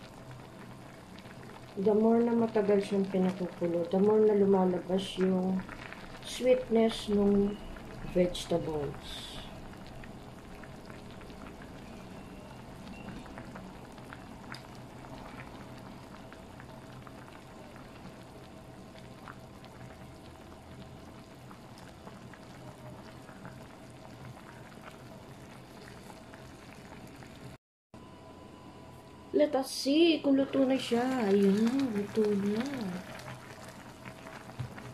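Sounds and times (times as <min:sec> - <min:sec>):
broth bubbling and popping: 0:00.0 - 0:27.6, 0:30.6 - 0:34.9
faint steady hum: 0:00.0 - 0:34.9.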